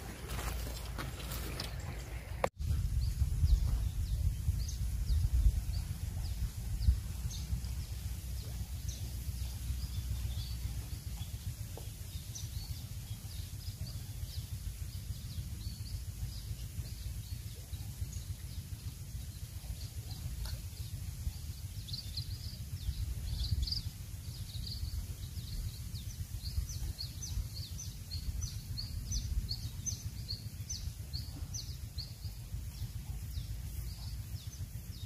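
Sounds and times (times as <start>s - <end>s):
birds chirping: 0.0s - 35.0s
wind rumble on microphone: 0.0s - 35.0s.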